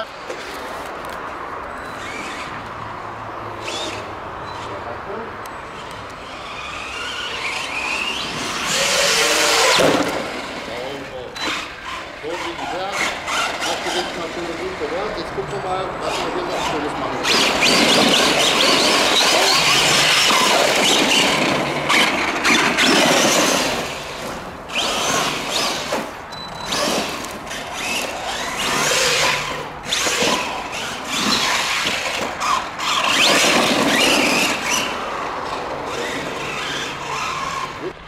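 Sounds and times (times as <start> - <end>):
tyres on dirt: 0.0 - 2.9, 3.5 - 38.0.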